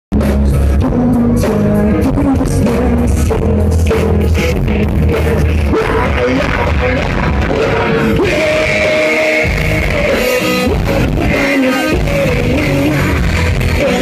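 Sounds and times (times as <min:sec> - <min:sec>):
bass guitar: 0:00.1 - 0:14.0
drums: 0:00.1 - 0:14.0
electric guitar: 0:00.1 - 0:14.0
person singing: 0:00.2 - 0:14.0.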